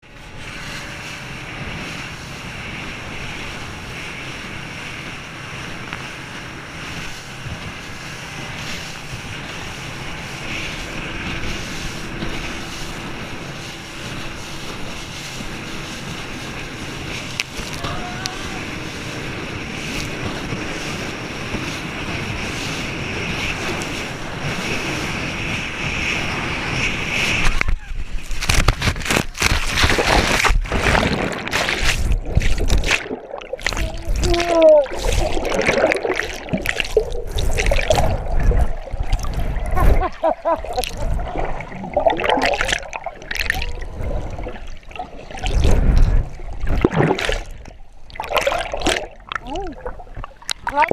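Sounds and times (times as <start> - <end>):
water rushing along boat hull: 0.0 - 50.9
wind buffeting microphone: 0.0 - 50.9.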